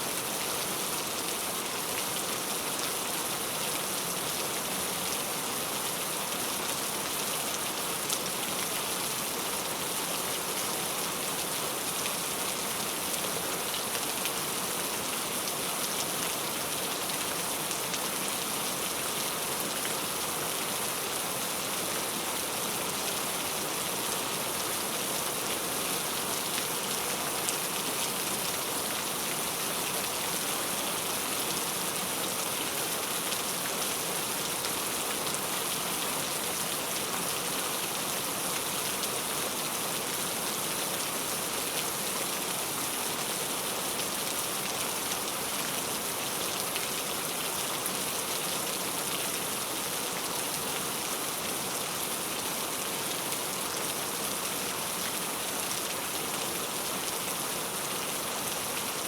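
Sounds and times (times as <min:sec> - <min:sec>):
heavy rain on surfaces: 0:00.0 - 0:59.0.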